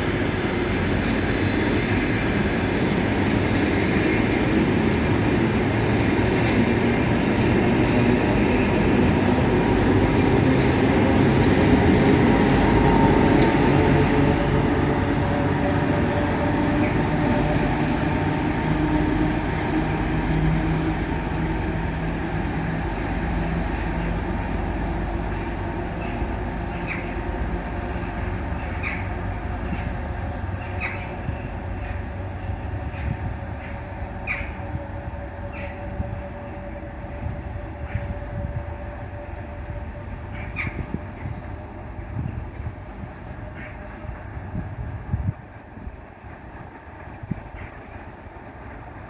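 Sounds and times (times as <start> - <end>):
train engine and wheel noise: 0.0 - 49.0.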